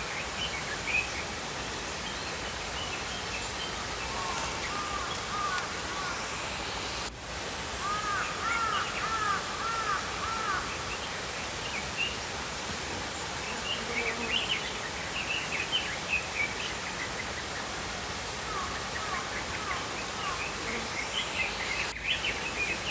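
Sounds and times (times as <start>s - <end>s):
stream flowing: 0.0s - 22.9s.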